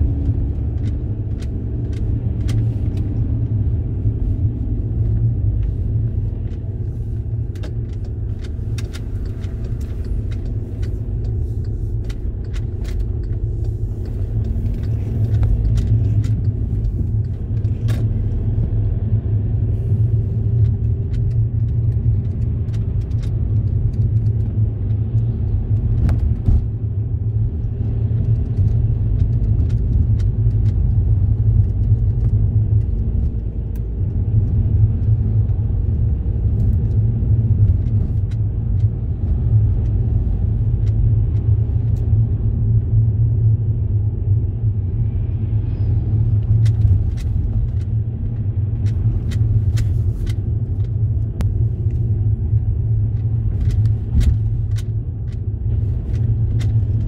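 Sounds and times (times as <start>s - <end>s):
faint clicks and rattles: 0.0s - 18.8s, 19.5s - 42.2s, 46.2s - 57.0s
car engine and tyre rumble: 0.0s - 57.0s.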